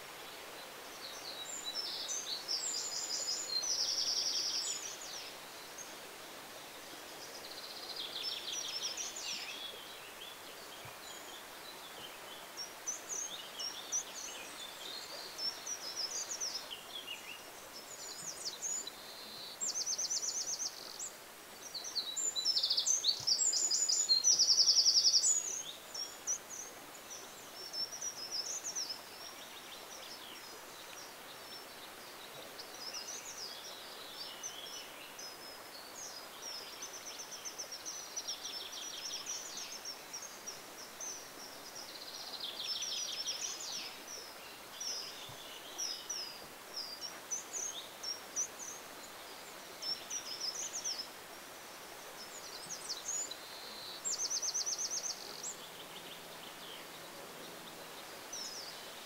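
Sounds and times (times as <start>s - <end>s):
faint outdoor hiss: 0.0s - 59.0s.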